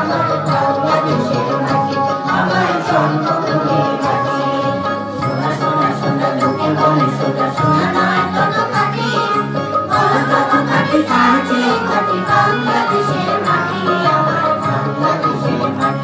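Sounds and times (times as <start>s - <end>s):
children and adults singing: 0.0s - 16.0s
instrumental accompaniment: 0.0s - 16.0s.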